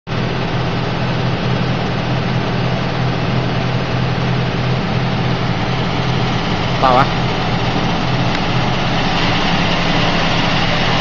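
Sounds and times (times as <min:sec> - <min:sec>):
vibrating screen machine hum: 0:00.1 - 0:11.0.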